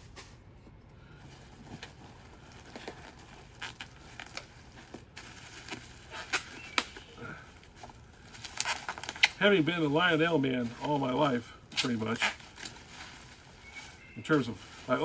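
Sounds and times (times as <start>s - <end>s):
packaging crinkling: 1.1s - 15.0s.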